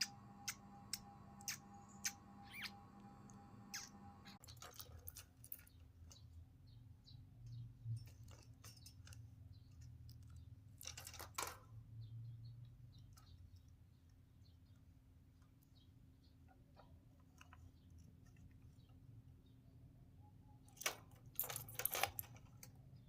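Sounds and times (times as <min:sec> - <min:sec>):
faint small clicks and scratches: 0:00.0 - 0:19.0, 0:20.6 - 0:23.0.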